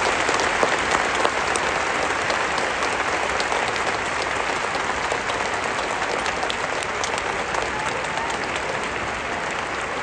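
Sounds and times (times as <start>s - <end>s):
stadium crowd clapping: 0.0s - 10.0s.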